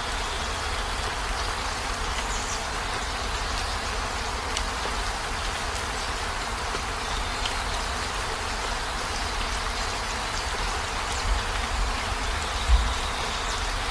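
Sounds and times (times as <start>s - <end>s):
heavy rain on a van: 0.0s - 13.9s
drip ticks: 1.0s - 13.0s.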